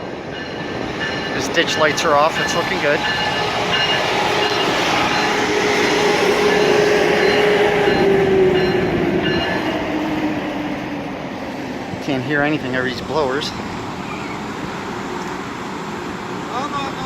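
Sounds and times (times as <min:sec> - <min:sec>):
train cooling blowers droning: 0:00.0 - 0:17.0.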